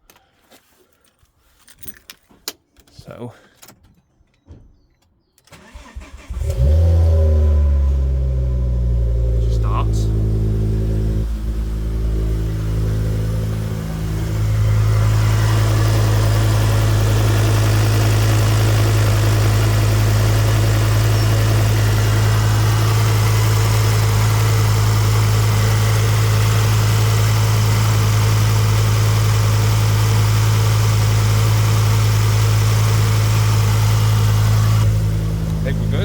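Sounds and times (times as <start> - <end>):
car engine idling: 5.6 - 36.0.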